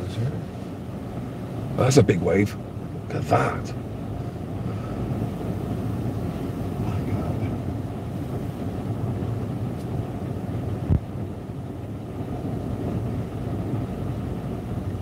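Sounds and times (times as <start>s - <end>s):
muffled wind: 0.0s - 15.0s.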